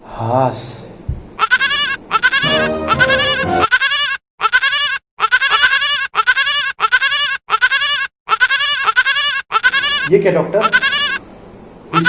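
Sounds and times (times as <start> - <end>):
goat bleating: 1.4 - 11.2.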